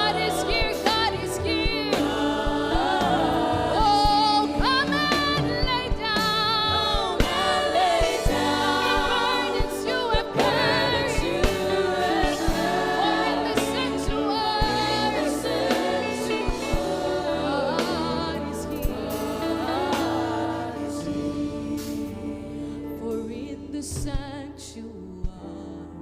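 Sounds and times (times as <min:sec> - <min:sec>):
people singing gospel song: 0:00.0 - 0:23.5
band accompaniment: 0:00.0 - 0:24.4.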